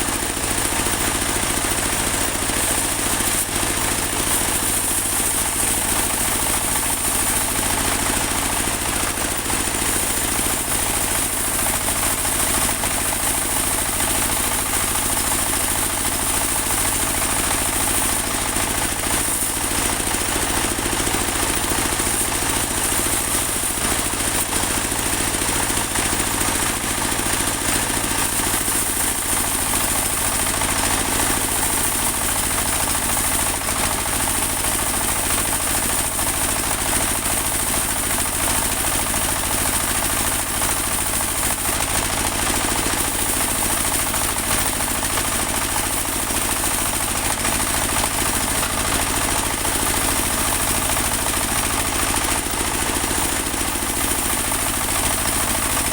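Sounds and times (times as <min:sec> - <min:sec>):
band sawmill engine running: 0:00.0 - 0:55.9.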